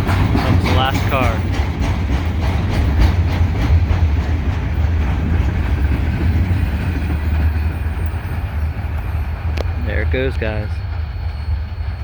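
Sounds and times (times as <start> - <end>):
freight train wheels rumbling: 0.0 - 12.0
train wheel clicks: 0.0 - 12.0.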